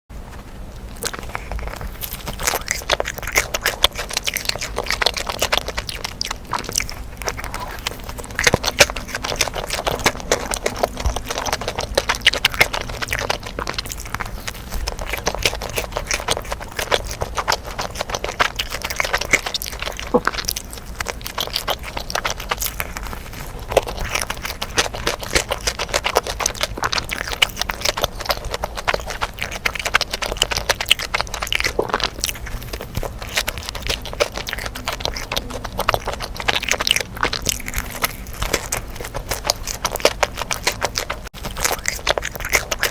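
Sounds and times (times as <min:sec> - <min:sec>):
person chewing: 0:00.2 - 0:42.9.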